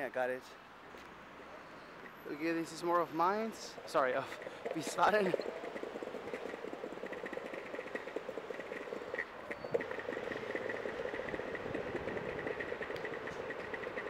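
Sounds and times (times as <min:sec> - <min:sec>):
skateboard wheels rolling on pavement: 0:00.7 - 0:14.0.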